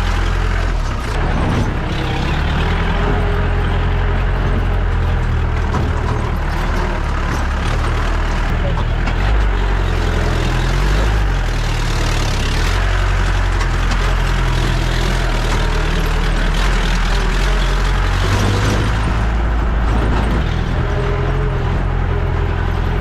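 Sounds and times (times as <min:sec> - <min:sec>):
engine drone: 0:00.0 - 0:23.0
tyre and rattle road noise: 0:00.0 - 0:23.0.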